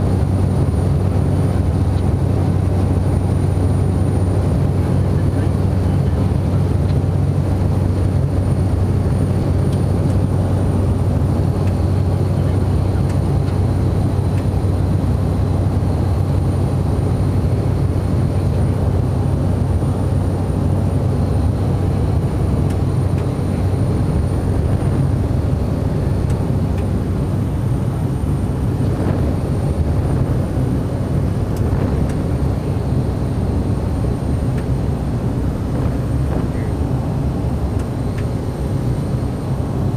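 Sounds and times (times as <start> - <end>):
high turbine whine: 0.0 - 39.9
turboprop engine drone: 0.0 - 39.9.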